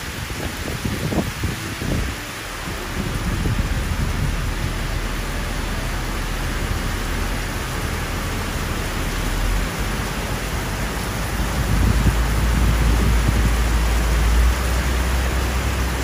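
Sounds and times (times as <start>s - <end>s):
heavy rain on paving: 0.0s - 16.0s
low rumble: 0.3s - 16.0s.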